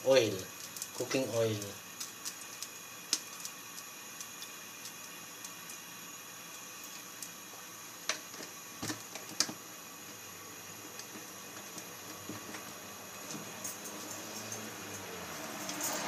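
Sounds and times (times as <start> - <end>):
oil hissing in a frying pan: 0.0 - 16.0.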